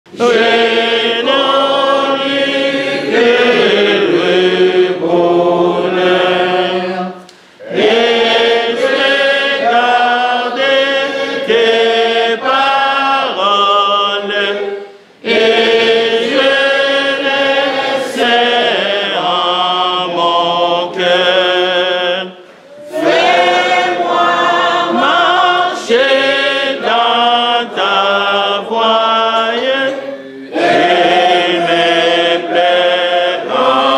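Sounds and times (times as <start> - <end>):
unaccompanied hymn singing: 0.1 - 33.9.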